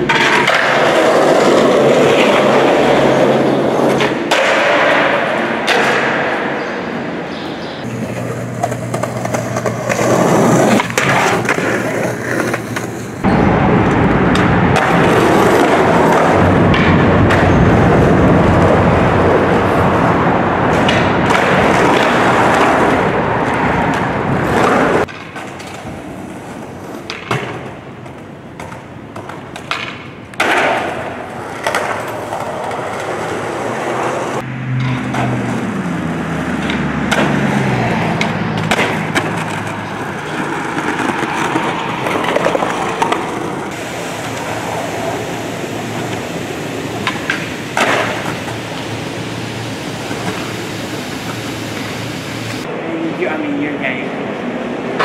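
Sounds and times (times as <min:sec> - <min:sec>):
skateboard clacking on ground: 0:00.0 - 0:07.0, 0:07.8 - 0:19.3, 0:20.6 - 0:35.7, 0:36.5 - 0:52.7
skateboard wheels rolling on concrete: 0:00.0 - 0:55.0.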